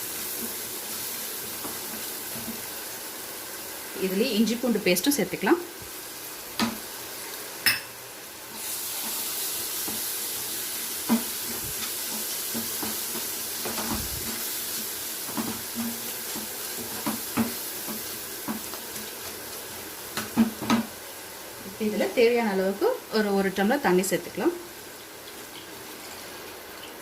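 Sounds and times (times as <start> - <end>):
frying sizzle: 0.0 - 27.0.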